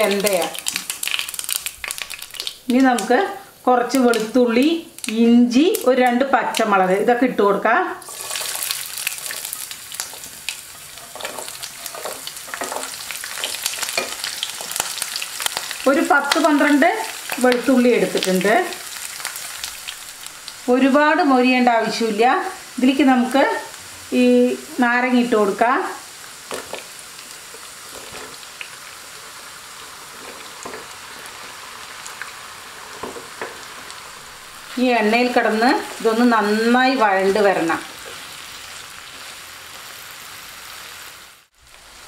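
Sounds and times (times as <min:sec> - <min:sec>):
oil crackling spatters: 0:00.0 - 0:03.2, 0:03.9 - 0:06.8, 0:08.0 - 0:21.0, 0:24.6 - 0:42.0
food sizzling in hot oil: 0:00.0 - 0:42.0.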